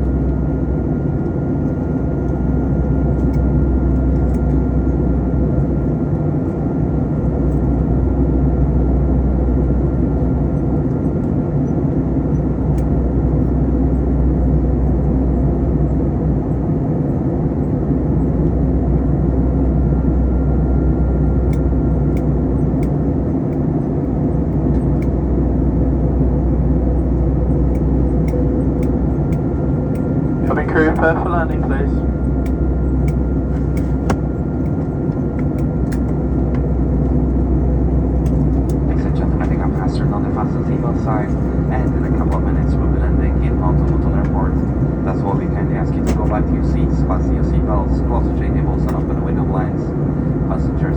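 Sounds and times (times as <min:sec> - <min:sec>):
jet engines and airflow rushing: 0:00.0 - 0:50.9.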